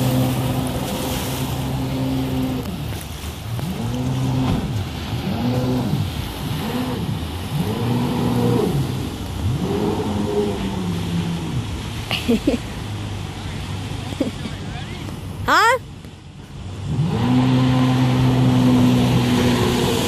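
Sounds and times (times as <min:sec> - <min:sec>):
boat engine revving: 0:00.0 - 0:20.0
rushing water noise: 0:00.0 - 0:20.0.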